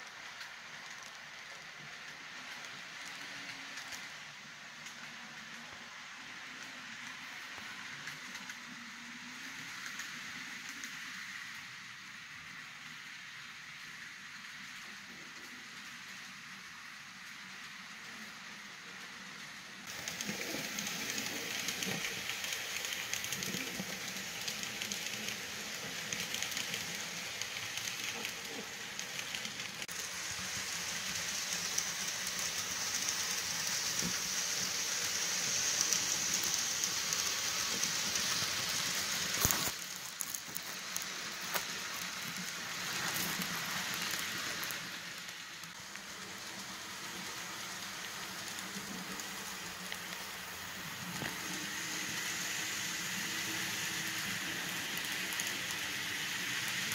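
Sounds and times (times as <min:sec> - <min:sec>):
model train rolling whir and hiss: 0:00.0 - 0:56.9.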